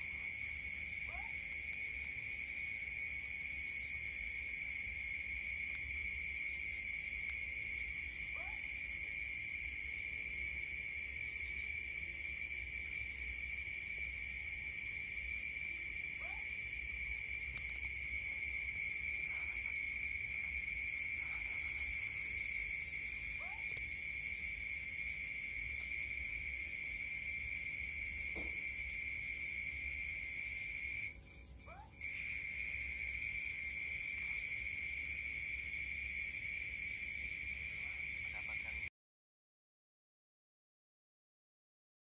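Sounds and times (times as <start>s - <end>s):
night insect chorus: 0.0s - 38.9s.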